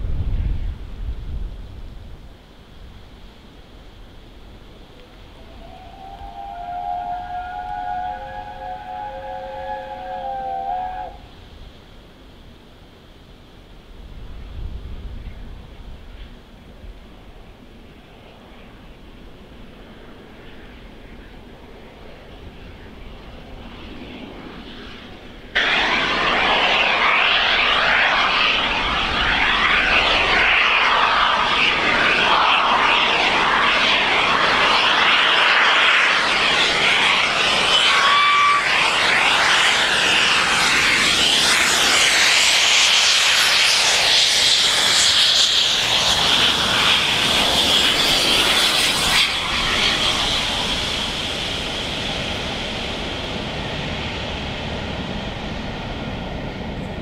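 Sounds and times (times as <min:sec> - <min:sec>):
steam locomotive exhaust: 0:02.7 - 0:12.7, 0:19.4 - 0:57.0.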